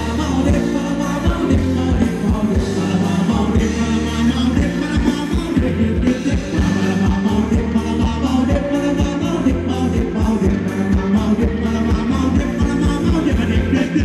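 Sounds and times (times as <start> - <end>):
live band dance music: 0.0 - 14.0
person singing: 0.0 - 14.0
steady drum beat: 0.0 - 14.0.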